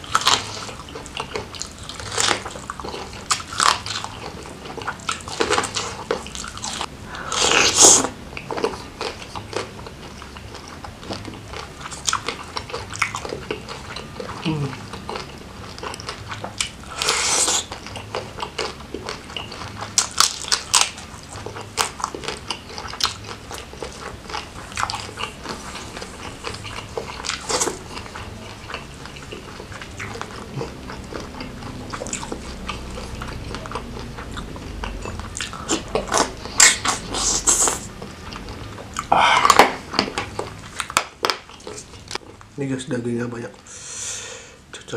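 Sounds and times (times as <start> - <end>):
wet chewing and crunching: 0.0 - 42.6.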